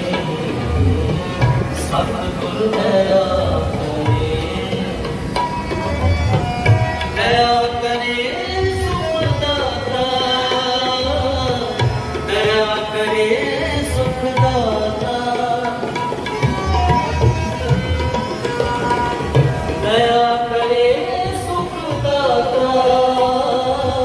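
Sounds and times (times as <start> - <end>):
tabla drum strokes: 0.0 - 24.0.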